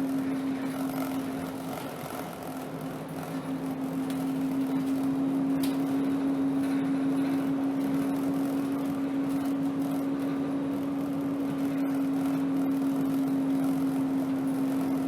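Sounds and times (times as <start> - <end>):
bus drivetrain drone: 0.0 - 15.0.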